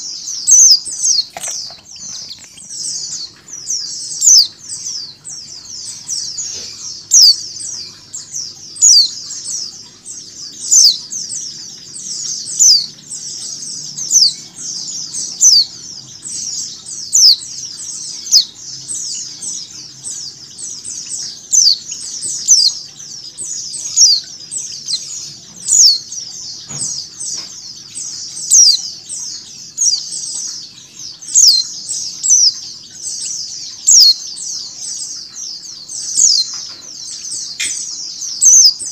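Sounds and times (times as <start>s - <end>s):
chorus of birds chirping: 0.0s - 38.9s
loud sharp bird chirp: 0.0s - 38.9s.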